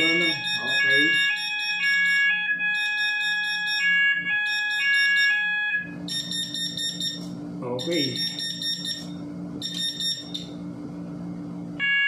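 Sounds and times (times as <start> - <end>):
fire alarm sounder tones: 0.0 - 10.6, 11.8 - 12.0.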